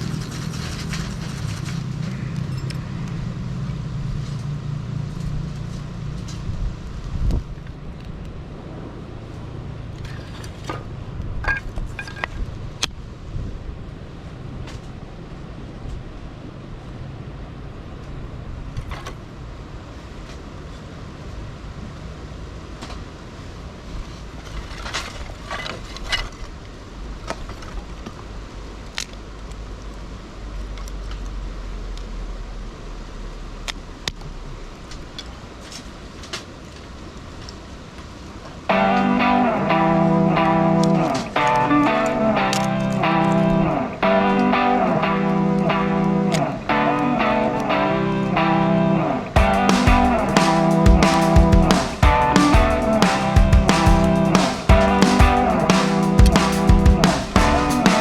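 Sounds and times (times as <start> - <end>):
distant road traffic rumble: 0.0 - 58.0.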